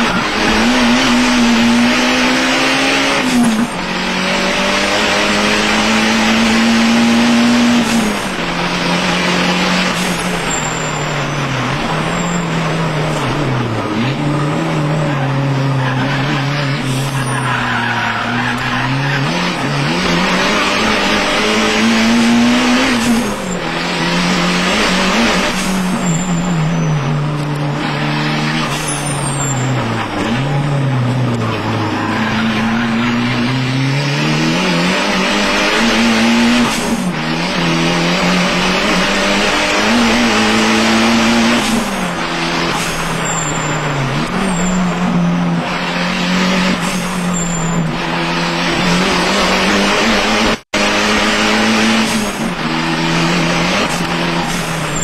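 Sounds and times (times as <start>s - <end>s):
race car engine revving: 0.0s - 55.0s
wind and road noise: 0.0s - 55.0s.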